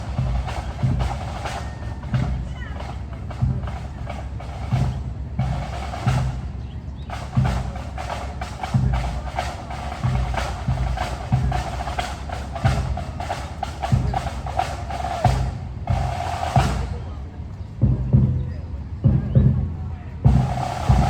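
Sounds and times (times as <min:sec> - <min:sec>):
bass drum beat: 0:00.0 - 0:17.2, 0:17.8 - 0:21.0
snare drum rolls: 0:00.0 - 0:17.2, 0:19.0 - 0:21.0.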